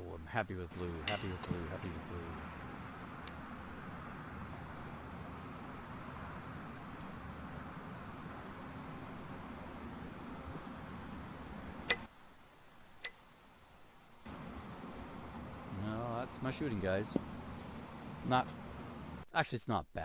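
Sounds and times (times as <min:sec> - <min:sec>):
crickets chirping: 0:00.0 - 0:19.3.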